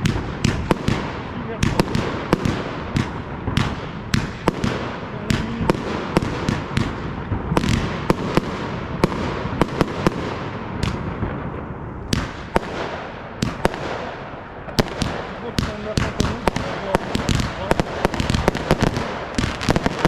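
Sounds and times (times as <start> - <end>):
fireworks cracking: 0.0 - 20.0
rumble of shell bursts: 0.0 - 20.0.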